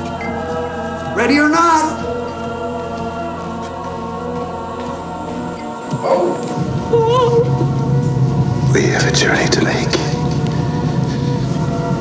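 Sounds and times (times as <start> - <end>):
choir holding sustained chords: 0.0 - 12.0
steady low tone: 0.0 - 12.0.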